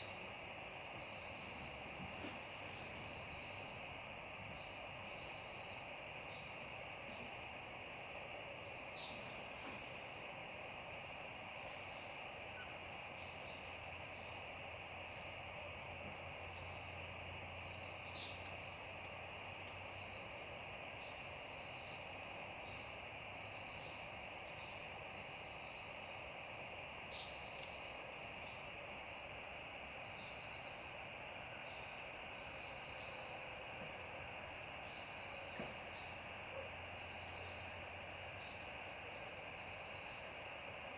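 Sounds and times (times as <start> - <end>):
crickets trilling: 0.0 - 40.9
steady background hiss: 0.0 - 40.9.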